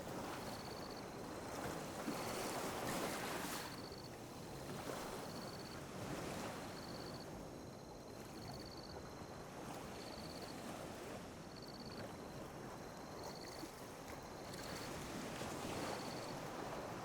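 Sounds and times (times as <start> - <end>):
sea waves lapping on a beach: 0.0 - 17.0.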